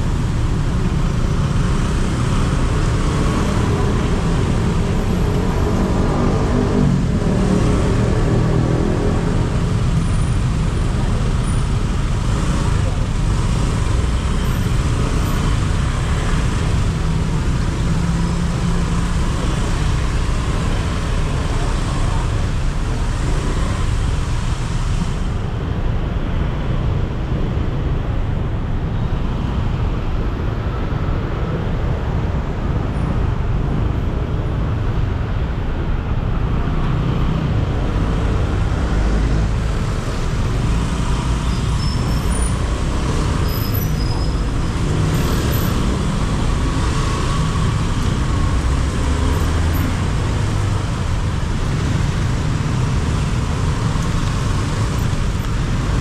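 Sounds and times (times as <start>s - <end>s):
city traffic rumble: 0.0s - 56.0s.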